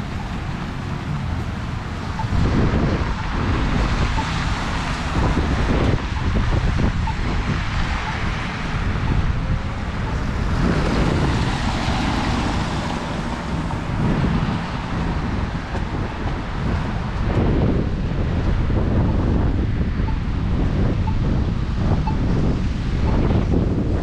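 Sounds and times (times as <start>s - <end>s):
vehicle passing: 0.0s - 21.7s
wind buffeting microphones: 0.0s - 24.0s.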